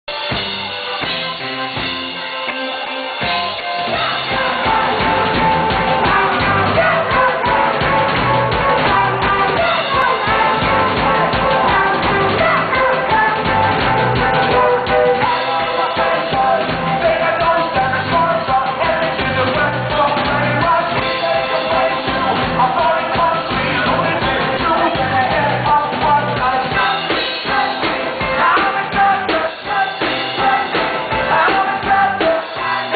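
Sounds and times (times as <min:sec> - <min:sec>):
live rock band playing: 0:00.1 - 0:32.9
man singing lead vocals: 0:03.2 - 0:32.9.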